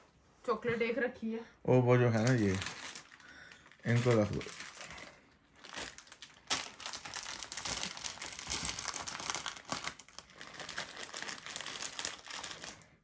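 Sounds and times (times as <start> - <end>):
plastic wrappers crinkling: 2.1 - 13.0.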